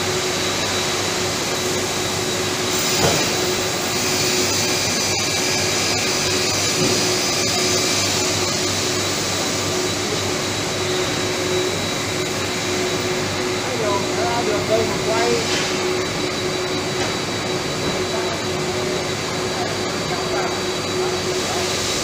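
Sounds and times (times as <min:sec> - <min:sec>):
laminating machine whirring: 0:00.0 - 0:22.0.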